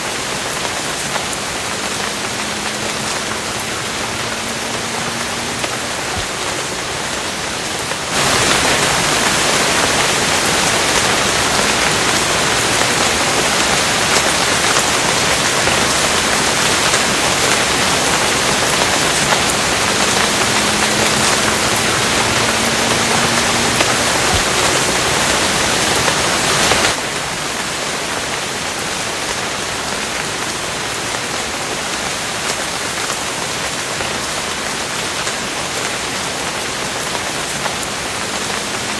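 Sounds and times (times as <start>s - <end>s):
rain hissing: 0.0s - 38.9s.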